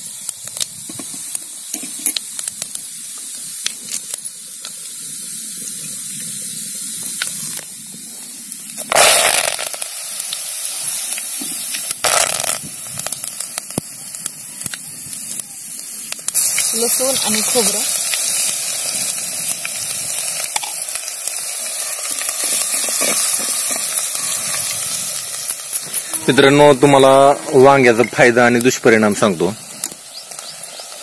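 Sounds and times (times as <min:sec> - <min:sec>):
leaves hissing in hot oil: 0:00.0 - 0:31.0
seeds sizzling in hot oil: 0:00.0 - 0:31.0.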